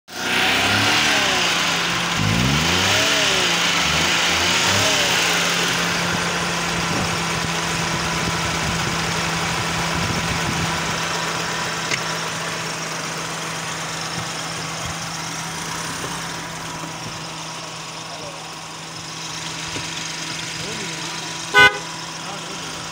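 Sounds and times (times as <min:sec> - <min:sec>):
car engine revving and idling: 0:00.1 - 0:22.9.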